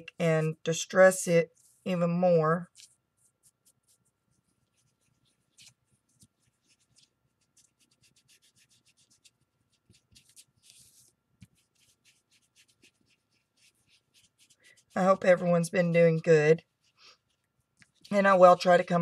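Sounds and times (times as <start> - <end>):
tool scratching on paper: 2.8 - 18.8.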